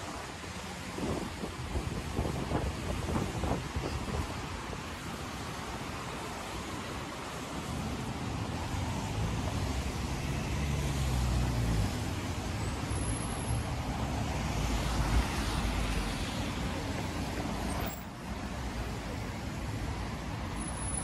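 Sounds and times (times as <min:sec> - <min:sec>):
tyres hissing on wet road: 0:00.0 - 0:21.0.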